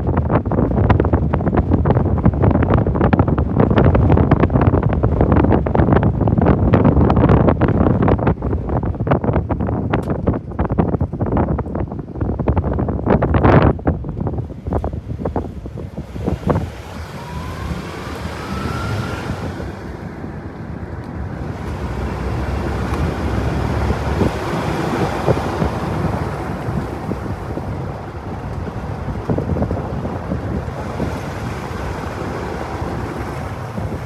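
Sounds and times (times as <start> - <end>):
gusting wind buffeting microphone: 0.0 - 34.0.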